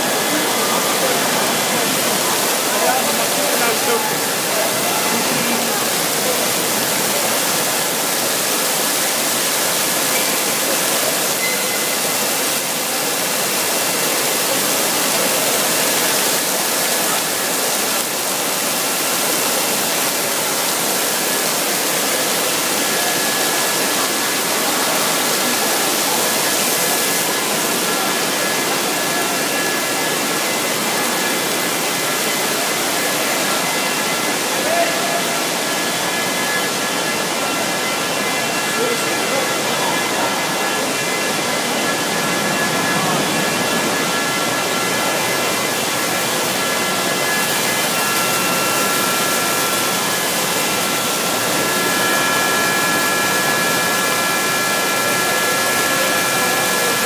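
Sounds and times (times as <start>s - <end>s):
torrential rain pouring: 0.0s - 57.0s.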